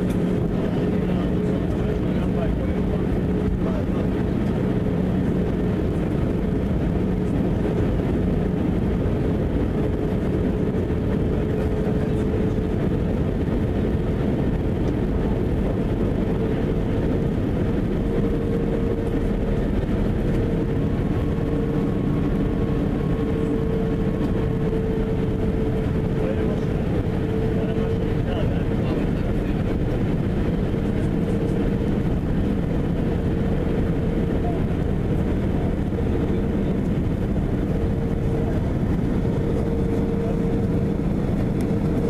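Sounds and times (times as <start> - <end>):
airflow rush: 0.0 - 42.0
jet engine drone: 0.0 - 42.0.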